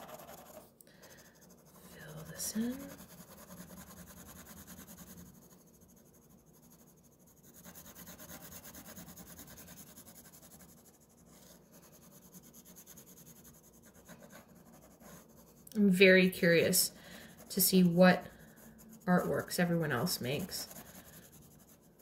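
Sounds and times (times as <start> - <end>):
pencil scratching on paper: 0.0 - 22.0.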